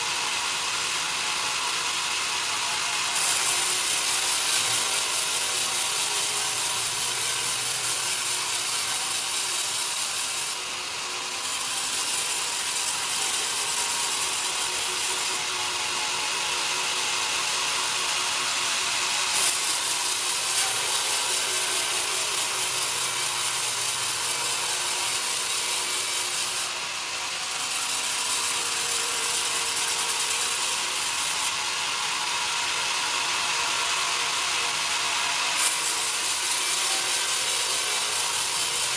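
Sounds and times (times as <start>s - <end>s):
bandsaw cutting wood: 0.0s - 38.9s.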